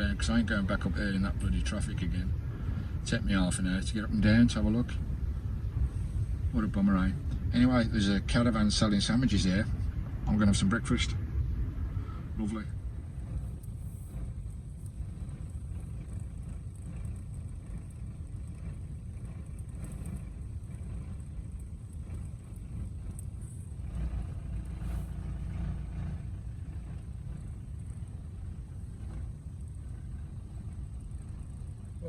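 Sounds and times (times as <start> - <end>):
motor vehicle rumbling: 0.0 - 32.0.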